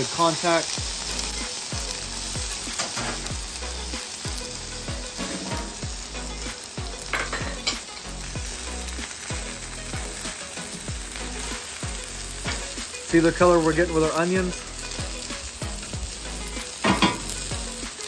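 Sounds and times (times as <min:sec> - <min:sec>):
meat sizzling on a griddle: 0:00.0 - 0:18.0.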